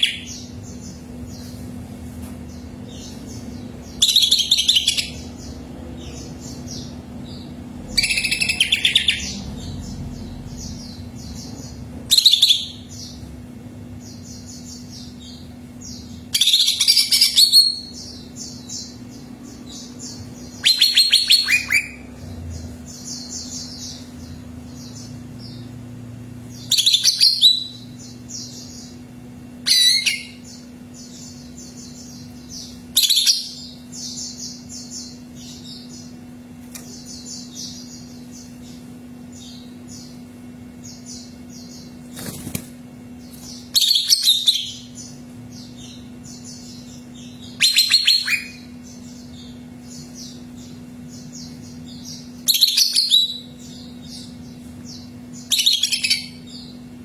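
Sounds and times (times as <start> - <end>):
soft bird twittering: 0.0 - 1.7, 2.4 - 13.3, 13.9 - 57.0
bird song phrases: 0.0 - 57.0
faint low hum: 0.0 - 57.0.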